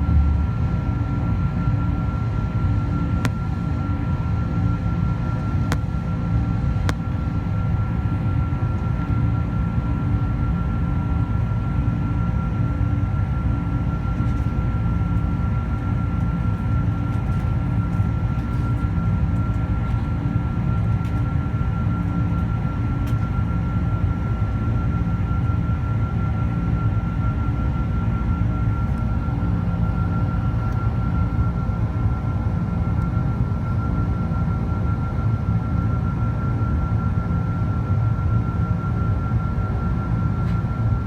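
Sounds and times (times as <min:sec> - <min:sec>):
airliner cabin drone: 0:00.0 - 0:41.0
thin steady whine: 0:00.0 - 0:41.0.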